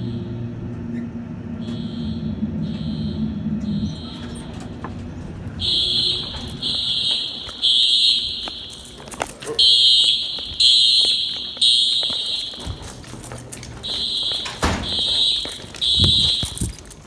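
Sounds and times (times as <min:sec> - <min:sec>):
fire alarm horns beeping: 0:00.0 - 0:17.0.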